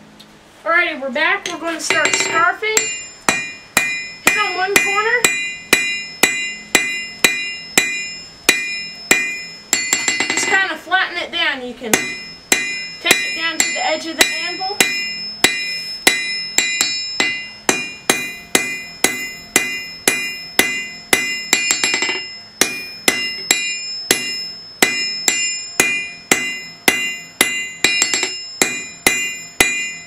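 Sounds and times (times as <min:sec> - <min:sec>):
hammer ringing on anvil: 0:01.4 - 0:10.6, 0:11.9 - 0:30.0.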